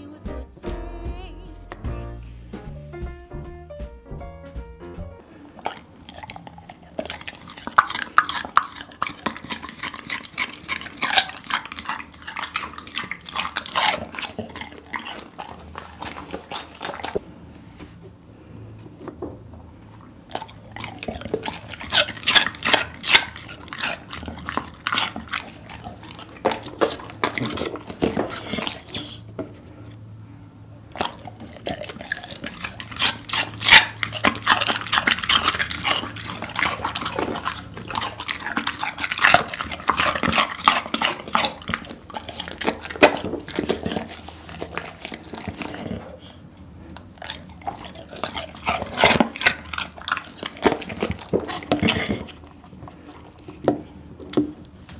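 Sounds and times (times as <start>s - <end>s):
dog chewing cucumber: 5.4s - 17.3s, 19.9s - 30.0s, 30.8s - 54.9s.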